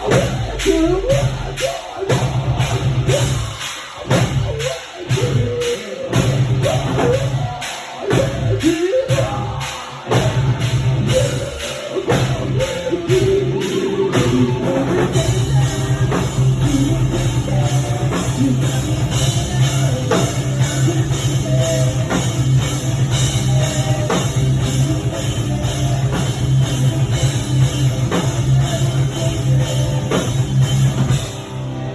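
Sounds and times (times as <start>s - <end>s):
driving drum kit: 0.0s - 31.9s
heavy electric guitars: 0.0s - 31.9s.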